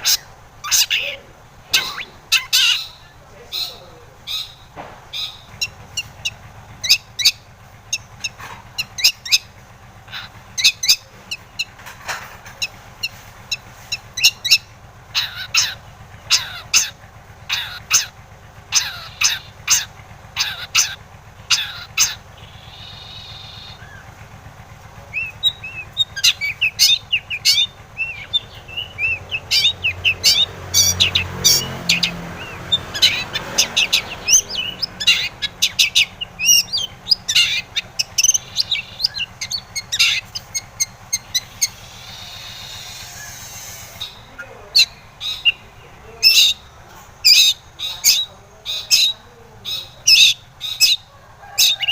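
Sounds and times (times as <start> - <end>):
shrike harsh chattering song: 0.0 - 51.9.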